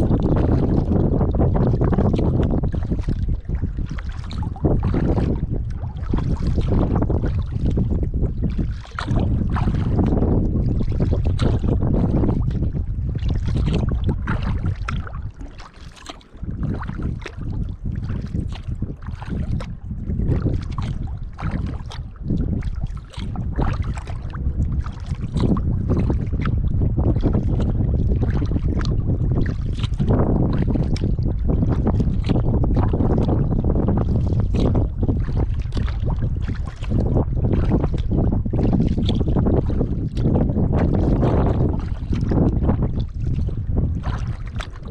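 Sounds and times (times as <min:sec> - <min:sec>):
kayak paddle strokes splashing: 0:00.0 - 0:44.9
wind buffeting microphone: 0:00.0 - 0:44.9.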